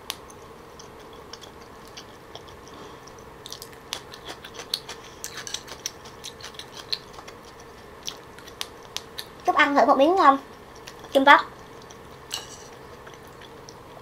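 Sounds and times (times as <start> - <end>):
wet chewing mouth sounds: 0.3 - 9.5, 10.4 - 14.0.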